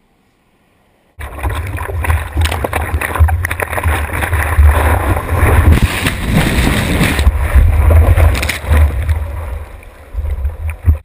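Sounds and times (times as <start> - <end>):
heavy low rumble: 1.2 - 11.0
rushing water: 1.2 - 11.0
wind buffeting camera: 1.4 - 11.0.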